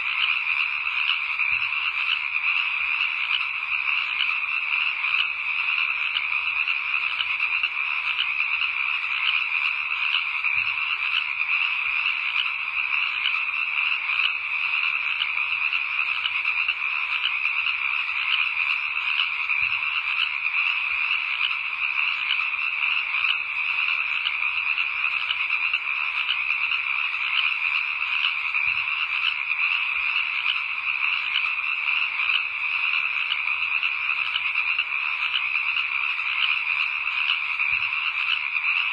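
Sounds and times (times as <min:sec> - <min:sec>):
frogs chorus: 0:00.0 - 0:38.9.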